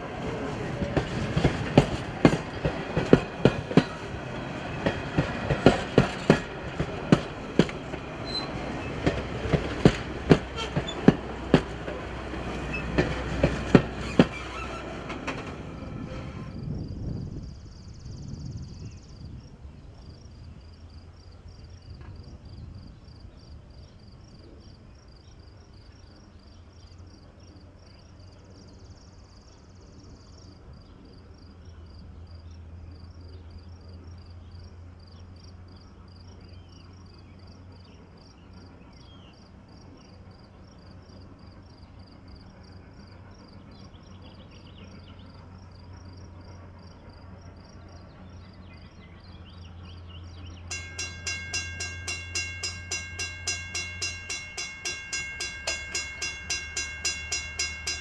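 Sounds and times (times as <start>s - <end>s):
insects chirping: 0.6s - 58.0s.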